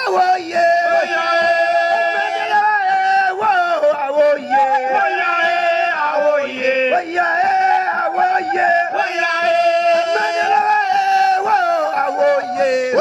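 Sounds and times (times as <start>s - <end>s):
men chanting in held notes: 0.0s - 13.0s.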